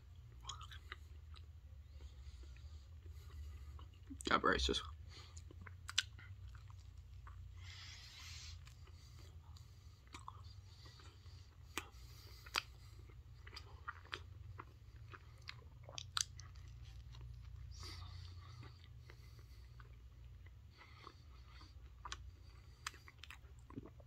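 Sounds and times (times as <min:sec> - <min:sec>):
person chewing crunchy food: 0:00.0 - 0:04.2, 0:04.9 - 0:24.0.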